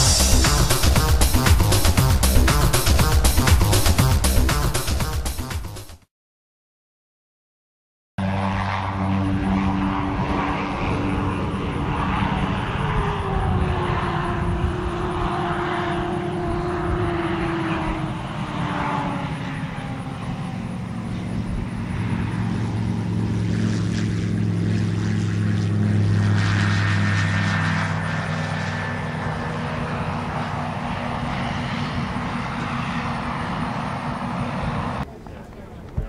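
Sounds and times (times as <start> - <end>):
propeller aircraft engine passing: 0.0 - 5.8, 8.2 - 36.0.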